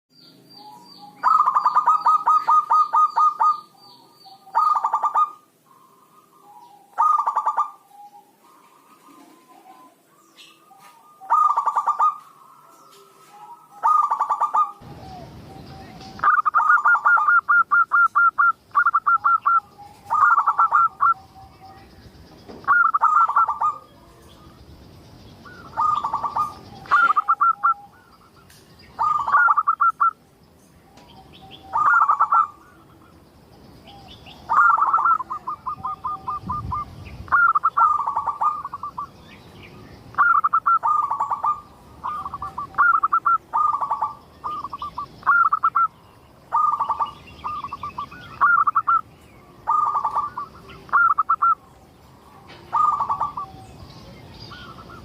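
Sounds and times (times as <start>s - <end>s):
dove cooing: 0.6s - 21.8s, 22.6s - 24.6s, 25.4s - 30.2s, 30.8s - 33.2s, 33.8s - 39.2s, 40.1s - 53.9s.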